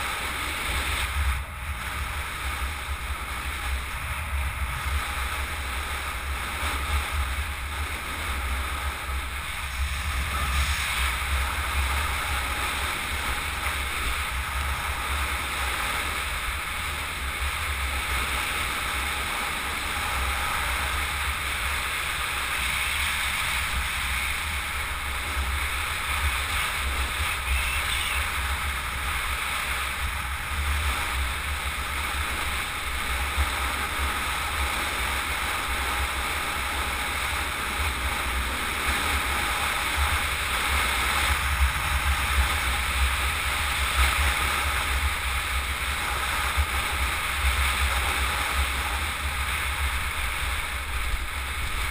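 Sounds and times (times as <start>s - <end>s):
heavy low rumble: 0.0s - 51.9s
wind buffeting microphone: 0.0s - 51.9s.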